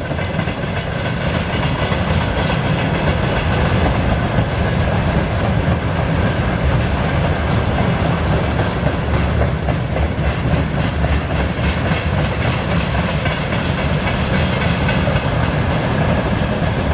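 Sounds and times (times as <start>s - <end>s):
train wheels clattering over rail joints: 0.0s - 16.9s.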